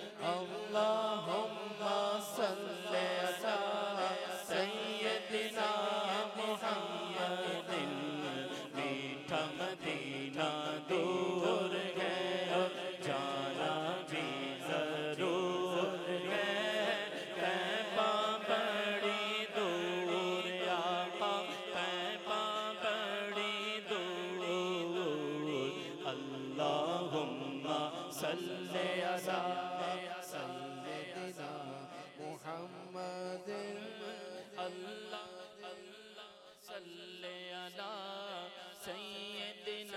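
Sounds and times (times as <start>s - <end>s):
man singing into a microphone: 0.0s - 39.9s.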